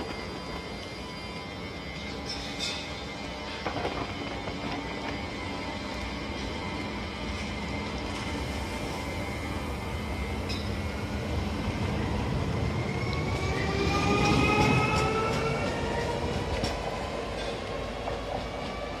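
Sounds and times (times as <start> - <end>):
train drive whine: 0.0 - 19.0.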